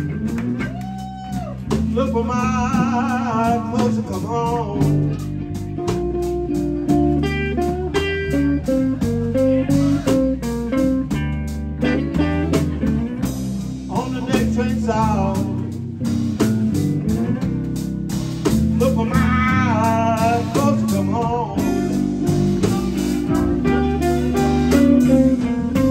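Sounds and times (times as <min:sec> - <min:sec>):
drums: 0:00.0 - 0:25.9
electric bass: 0:00.0 - 0:25.9
electric guitar lead lines: 0:01.7 - 0:25.9.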